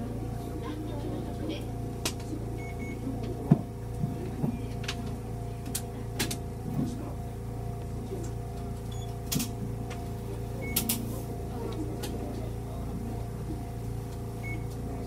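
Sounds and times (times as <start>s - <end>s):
train electrical hum: 0.0s - 15.0s.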